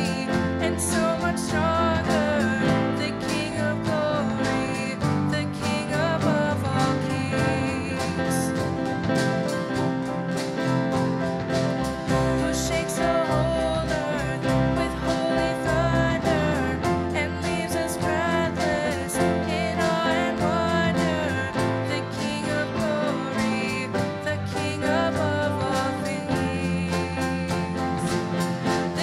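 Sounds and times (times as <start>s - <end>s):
band playing with singing: 0.0s - 29.0s.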